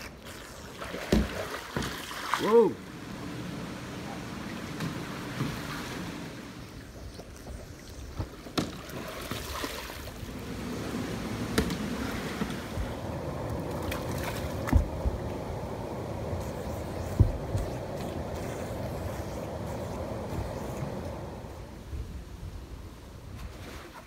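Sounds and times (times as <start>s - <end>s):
water sloshing around kayak: 0.0s - 21.3s.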